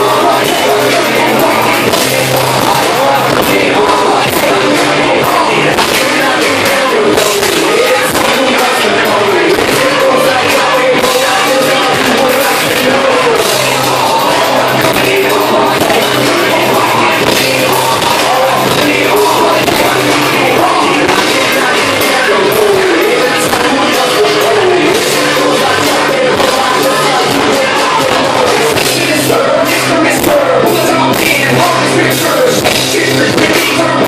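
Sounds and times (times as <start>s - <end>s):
drums: 0.0s - 34.0s
electric guitar: 0.0s - 34.0s
live rock band playing: 0.0s - 34.0s
person singing into a microphone: 0.0s - 34.0s.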